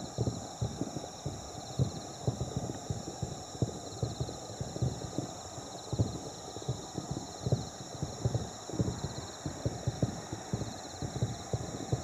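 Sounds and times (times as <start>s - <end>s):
distant fireworks booms: 0.0s - 12.0s.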